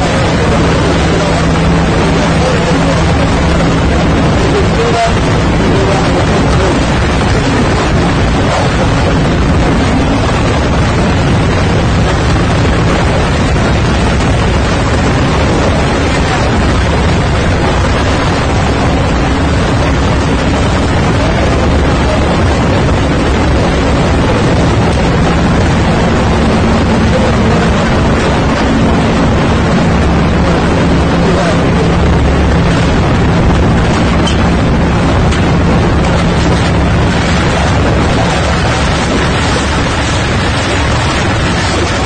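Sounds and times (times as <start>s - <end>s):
loud rushing noise: 0.0s - 42.0s
low hum: 0.0s - 42.0s.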